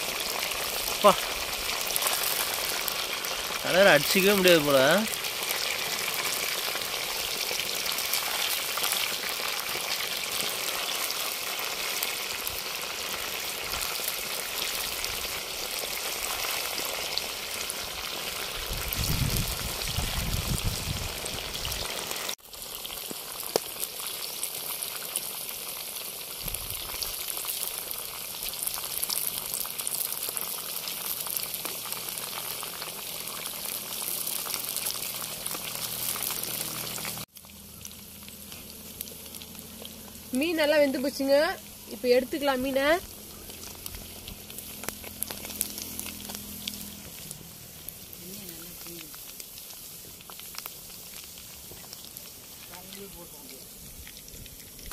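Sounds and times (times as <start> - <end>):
fish deep-frying in oil: 0.0 - 54.9.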